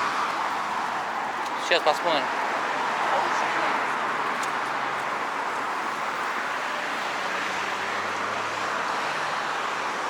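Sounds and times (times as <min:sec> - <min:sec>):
city traffic road noise: 0:00.0 - 0:10.0.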